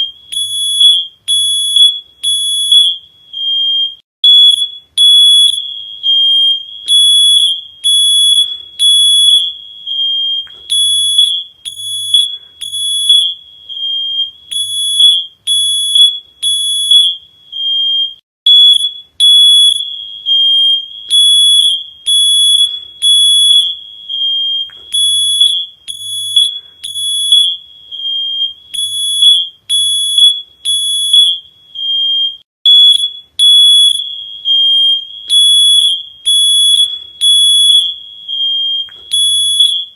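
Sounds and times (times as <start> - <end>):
smoke alarm beeping: 0.0 - 39.9.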